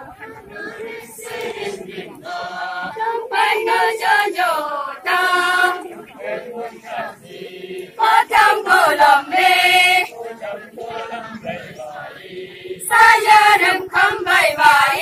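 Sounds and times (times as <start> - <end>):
women singing a chant-like song: 0.0 - 15.0.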